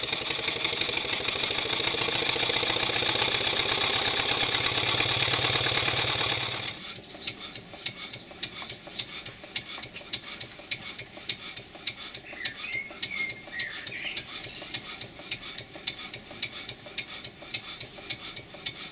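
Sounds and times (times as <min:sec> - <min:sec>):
engine metallic clicks: 0:00.0 - 0:18.9.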